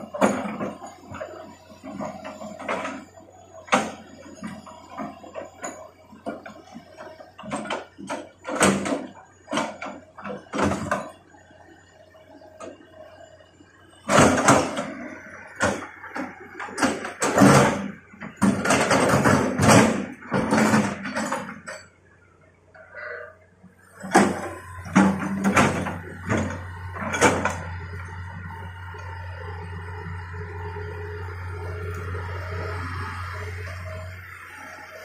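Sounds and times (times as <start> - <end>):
low engine hum: 0.0 - 21.4, 23.6 - 35.0.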